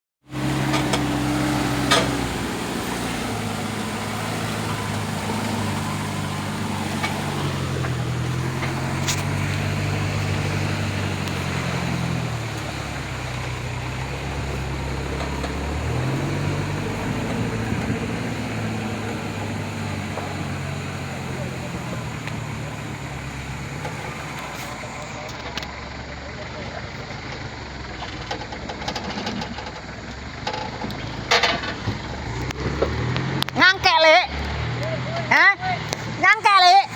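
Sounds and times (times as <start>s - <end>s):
truck engine running: 0.2s - 36.9s.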